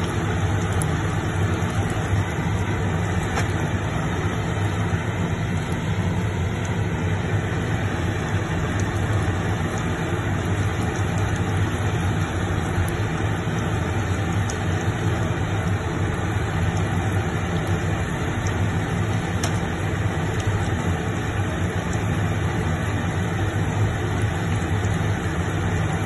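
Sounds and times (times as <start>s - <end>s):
cutlet frying in hot oil: 0.0s - 26.0s.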